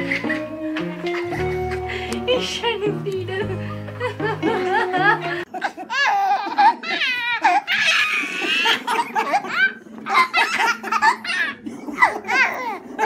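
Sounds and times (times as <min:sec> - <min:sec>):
baby laughing: 0:00.0 - 0:13.0.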